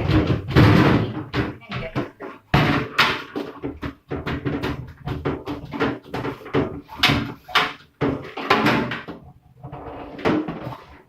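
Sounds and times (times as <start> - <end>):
plastic drawer knocking and rattling: 0.0 - 11.0.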